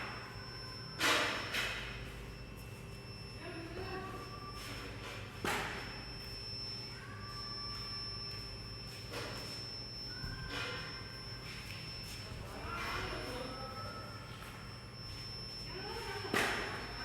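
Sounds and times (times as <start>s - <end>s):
furnace high whine: 0.0s - 17.0s
low electrical hum: 0.0s - 17.0s.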